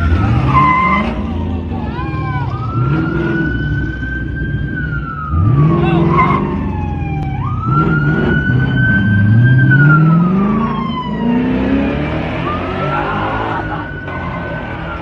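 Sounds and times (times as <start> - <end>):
car engine accelerating hard: 0.0 - 15.0
police siren wailing: 0.0 - 15.0.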